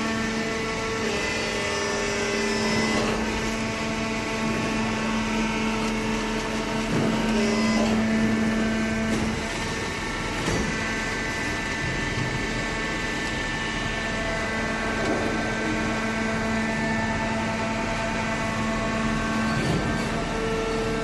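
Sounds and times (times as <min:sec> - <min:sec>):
baling press motor humming: 0:00.0 - 0:21.0.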